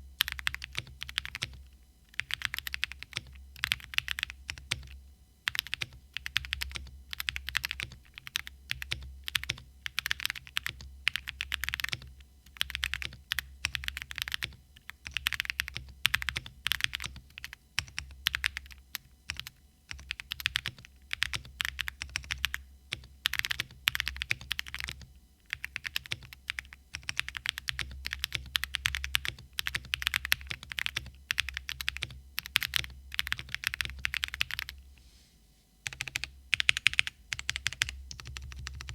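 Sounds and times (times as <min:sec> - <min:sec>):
faint low hum: 0:00.0 - 0:38.9
mechanical keyboard typing: 0:00.2 - 0:34.8, 0:35.8 - 0:38.9.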